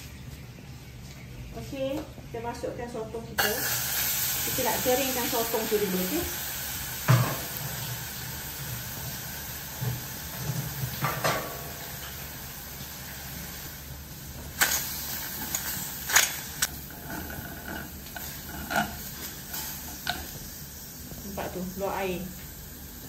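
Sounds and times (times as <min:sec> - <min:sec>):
squid sizzling in a pan: 0:03.4 - 0:23.0.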